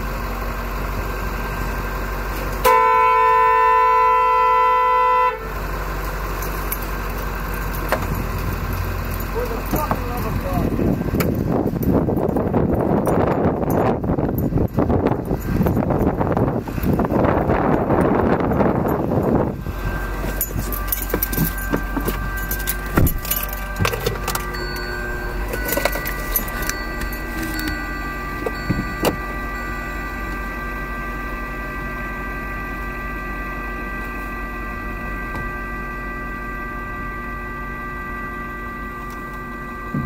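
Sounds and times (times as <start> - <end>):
steady low hum: 3.3 - 40.0.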